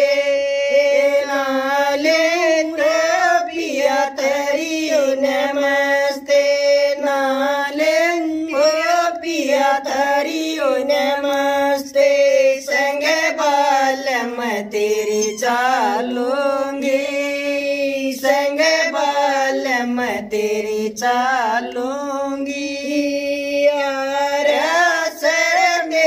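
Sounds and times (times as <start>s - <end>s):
women singing unaccompanied: 0.0s - 26.0s.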